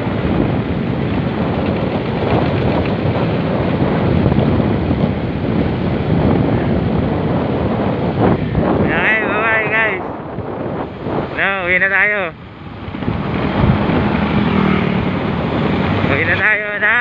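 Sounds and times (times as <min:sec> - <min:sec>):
motorcycle running: 0:00.0 - 0:09.2, 0:10.1 - 0:17.0
wind rushing over microphone: 0:00.0 - 0:17.0.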